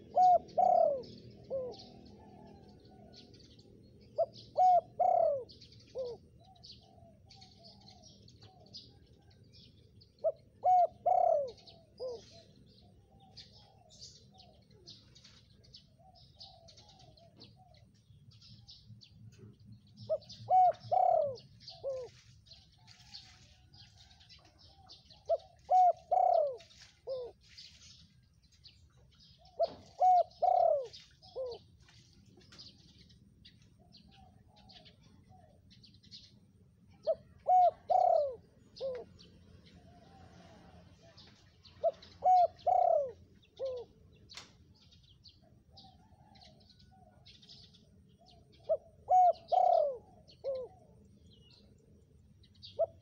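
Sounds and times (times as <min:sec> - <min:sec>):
dove cooing: 0:00.0 - 0:09.4, 0:10.0 - 0:18.1, 0:19.3 - 0:27.7, 0:28.7 - 0:31.8, 0:33.8 - 0:36.2, 0:36.9 - 0:51.7, 0:52.6 - 0:53.0.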